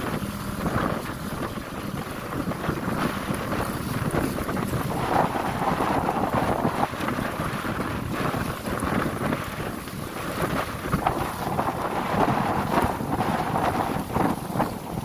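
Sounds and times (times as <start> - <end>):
water rushing and splashing: 0.0 - 15.0
wind buffeting microphone: 0.0 - 15.0.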